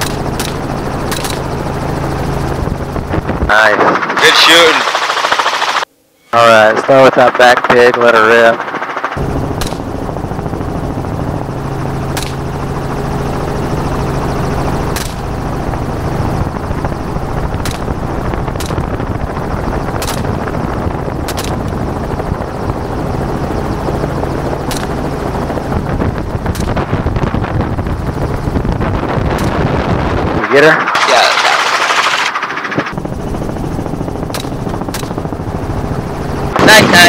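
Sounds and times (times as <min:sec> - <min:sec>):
helicopter running overhead: 0:00.0 - 0:37.0.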